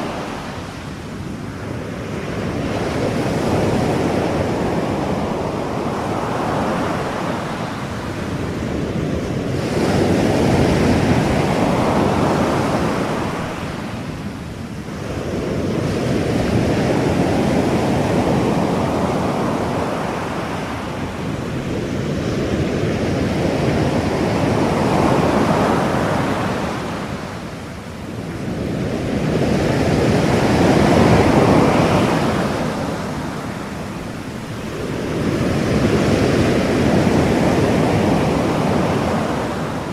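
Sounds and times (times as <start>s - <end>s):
ocean waves surging: 0.0s - 39.9s.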